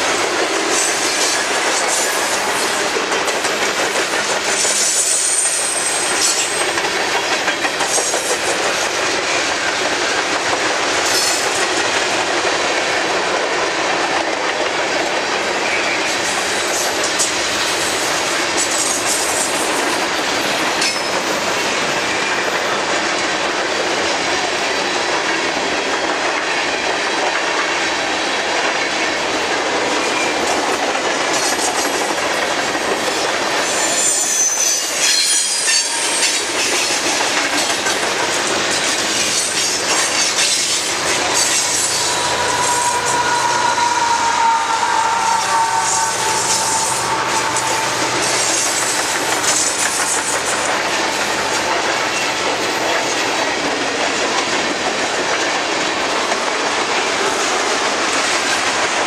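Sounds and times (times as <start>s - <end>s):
train wheels rumbling and rattling: 0.0s - 59.0s.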